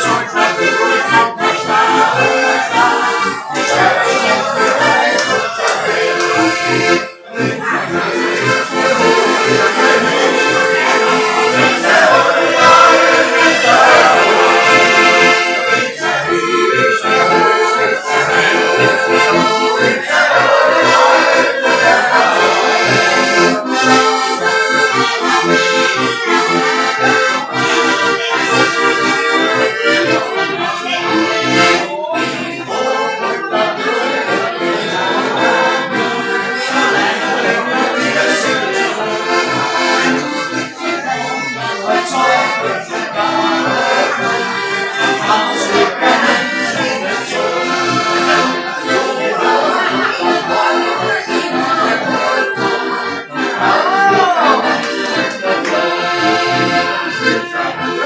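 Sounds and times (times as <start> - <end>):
accordion playing folk tune: 0.0 - 58.0.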